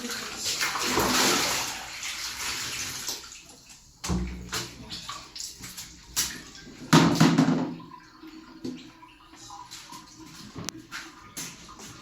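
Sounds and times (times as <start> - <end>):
water splashing in a basin: 0.0 - 12.0.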